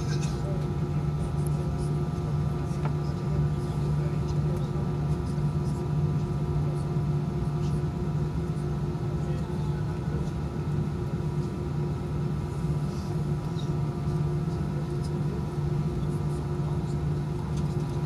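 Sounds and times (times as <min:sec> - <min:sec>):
jet engine cabin drone: 0:00.0 - 0:18.0.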